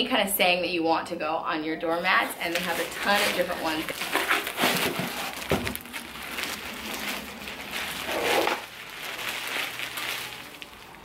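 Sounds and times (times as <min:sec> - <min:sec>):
cardboard rustling: 0:02.0 - 0:11.0
plastic wrap crinkling: 0:02.0 - 0:11.0.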